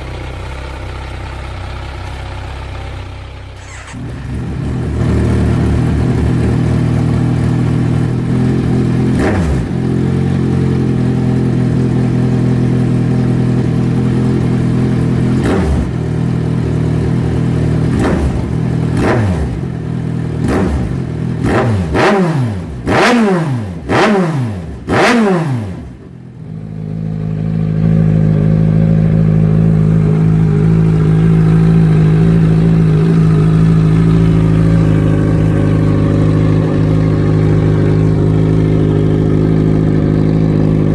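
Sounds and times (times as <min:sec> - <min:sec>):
motorcycle exhaust idling: 0:00.0 - 0:22.1, 0:23.8 - 0:40.9
motorcycle revving: 0:00.0 - 0:40.9.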